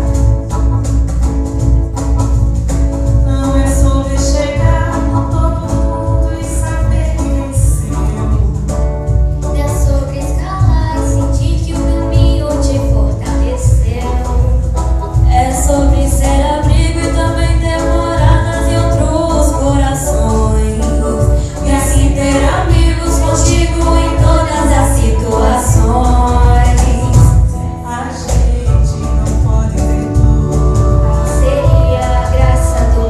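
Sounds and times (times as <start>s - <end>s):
music with heavy bass: 0.0s - 33.0s
girls singing pop ballad: 3.2s - 33.0s.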